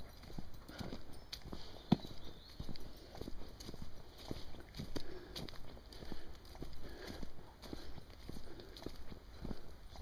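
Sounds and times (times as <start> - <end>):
footsteps on dirt and leaves: 0.0 - 10.0.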